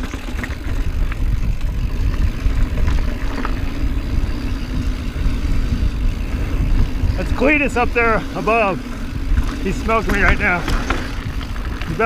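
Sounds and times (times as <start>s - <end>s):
mountain bike rolling over dirt: 0.0s - 12.0s
wind rumble on microphone: 0.0s - 12.0s.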